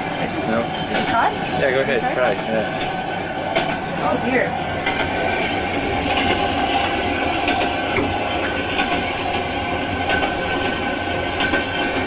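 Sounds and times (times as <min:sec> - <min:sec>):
train wheels and carriage noise: 0:00.0 - 0:12.0.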